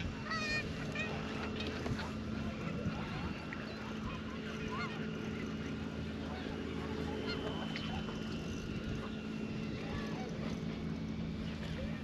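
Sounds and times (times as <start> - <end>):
distant geese honking: 0.0 - 12.0
steady low hum: 0.0 - 12.0.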